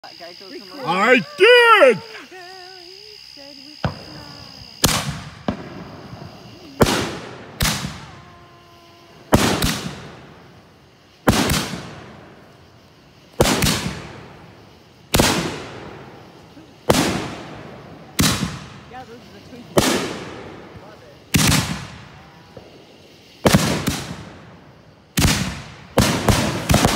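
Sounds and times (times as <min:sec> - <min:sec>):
firework shell explosions: 0:03.8 - 0:26.9.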